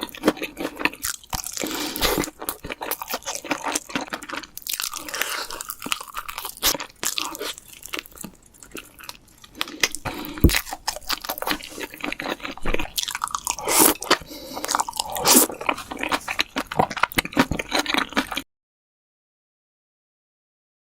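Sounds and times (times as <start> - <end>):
crunching fried chicken: 0.0 - 18.4.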